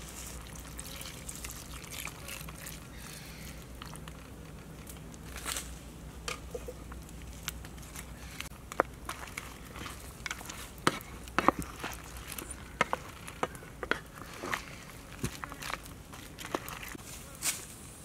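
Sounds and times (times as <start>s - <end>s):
curry simmering: 0.0s - 5.2s, 6.6s - 17.0s.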